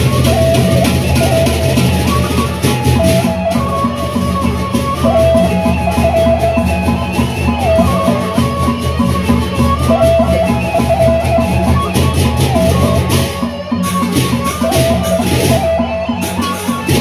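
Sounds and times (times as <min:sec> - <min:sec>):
bamboo flute melody: 0:00.0 - 0:17.0
drums and percussion: 0:00.0 - 0:17.0.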